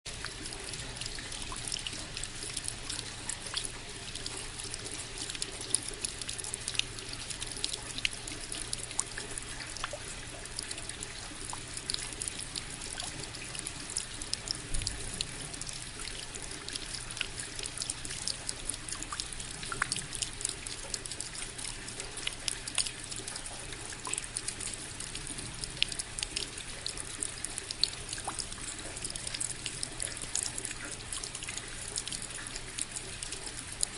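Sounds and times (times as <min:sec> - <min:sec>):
water splashing from a spout: 0:00.1 - 0:33.9.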